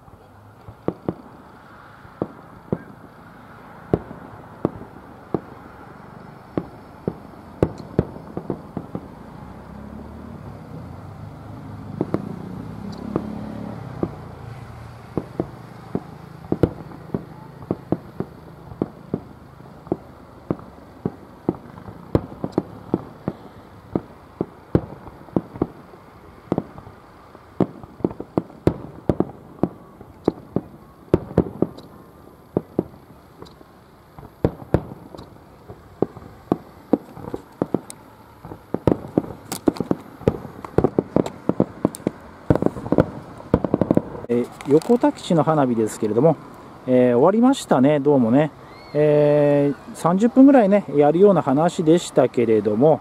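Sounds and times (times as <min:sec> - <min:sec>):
fireworks bangs and pops: 0:00.0 - 0:10.8, 0:11.4 - 0:53.0.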